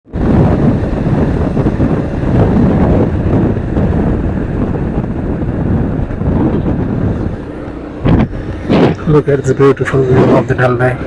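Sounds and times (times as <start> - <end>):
wind buffeting microphone: 0.0 - 11.0
motorcycle engine running: 0.1 - 11.0.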